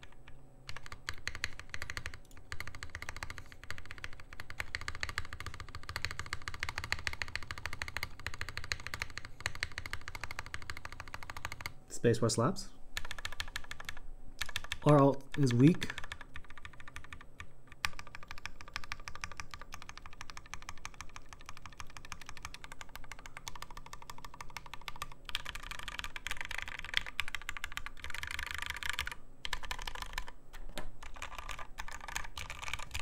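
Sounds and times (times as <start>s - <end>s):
mechanical keyboard typing: 0.0s - 11.8s, 13.0s - 33.0s.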